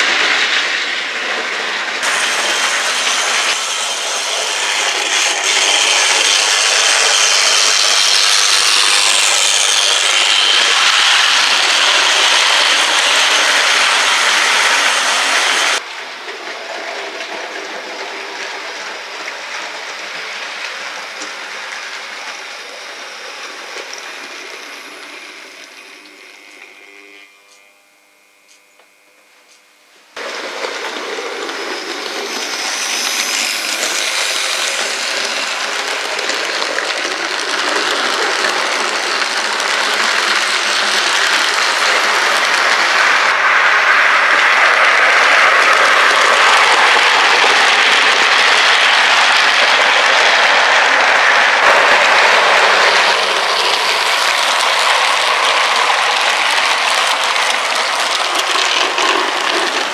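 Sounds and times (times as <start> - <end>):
model train wheels and motors rattling: 0.0 - 59.9.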